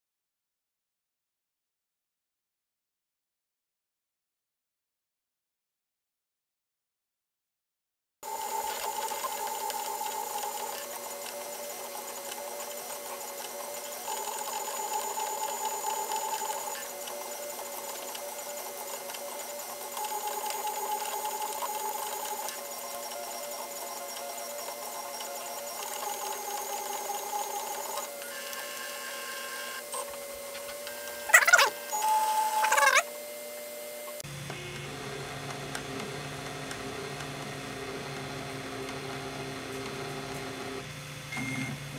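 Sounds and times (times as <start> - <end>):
stepper motors whining: 8.2 - 41.8.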